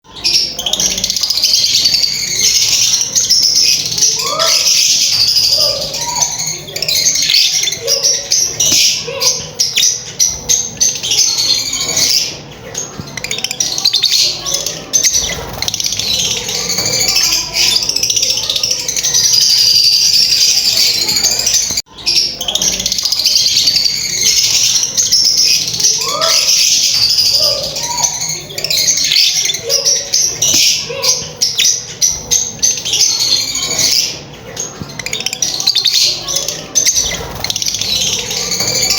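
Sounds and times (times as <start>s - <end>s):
lovebirds chattering: 0.0s - 38.9s.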